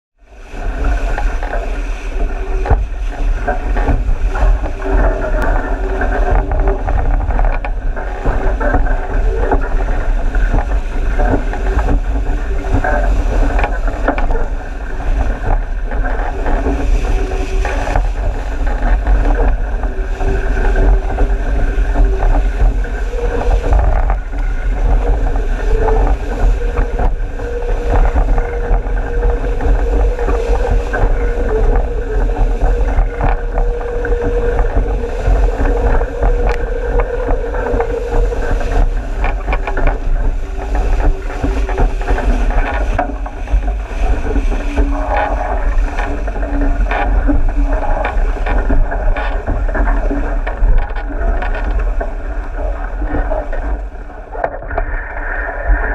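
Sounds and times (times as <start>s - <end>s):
water rushing along a hull: 0.2s - 55.9s
wind buffeting microphone: 0.2s - 55.9s.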